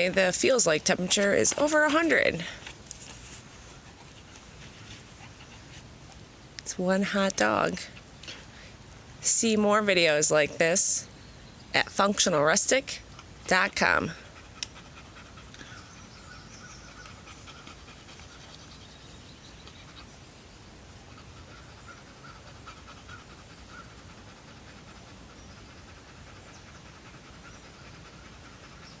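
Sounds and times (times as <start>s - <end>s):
dog panting: 0.0s - 8.7s, 12.3s - 20.2s, 20.9s - 29.0s.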